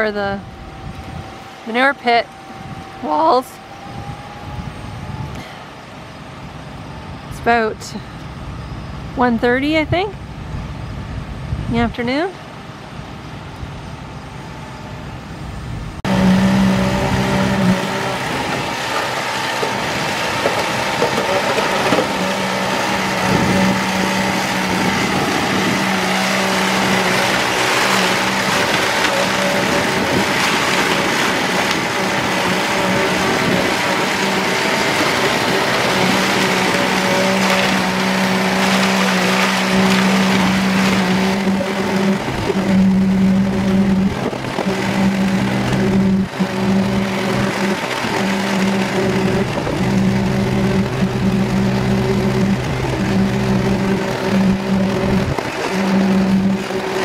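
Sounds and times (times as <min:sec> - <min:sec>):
pump truck engine droning: 0:00.0 - 0:57.0.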